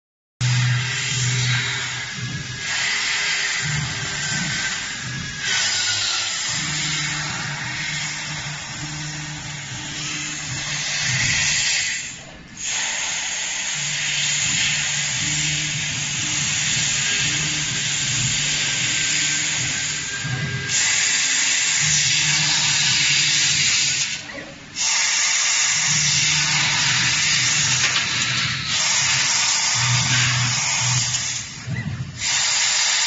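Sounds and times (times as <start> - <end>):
laser cutter gas hissing: 0.4 - 33.0.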